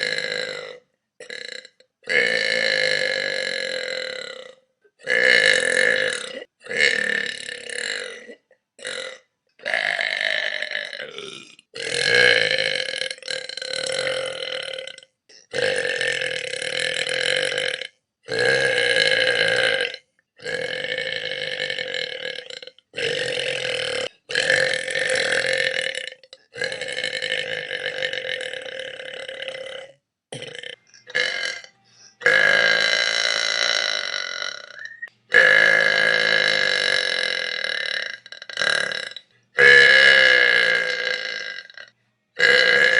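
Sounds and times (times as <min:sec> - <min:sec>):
person burping: 0:00.0 - 0:42.9.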